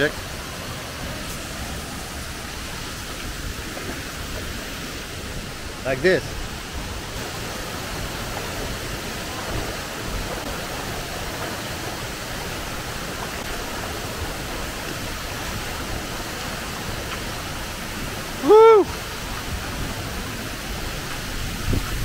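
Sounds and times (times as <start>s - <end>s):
waterfall pouring into a pool: 0.0s - 22.0s.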